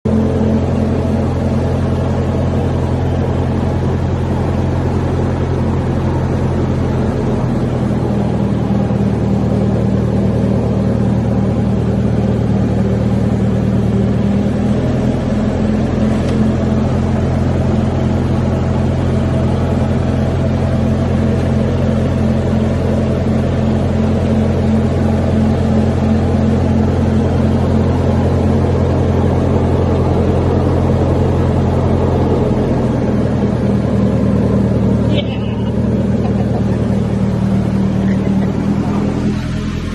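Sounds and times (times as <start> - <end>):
machine droning: 0.1 - 39.9.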